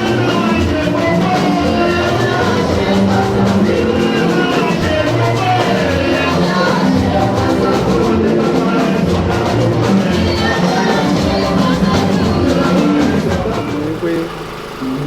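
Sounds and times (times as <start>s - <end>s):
music with steady drum beat: 0.0s - 15.0s.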